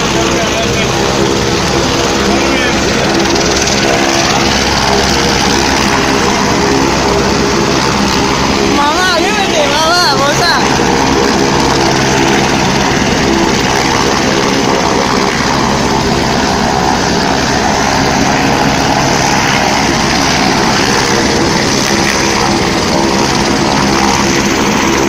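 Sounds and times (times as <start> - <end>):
helicopter turbine and rotor drone: 0.0 - 25.0.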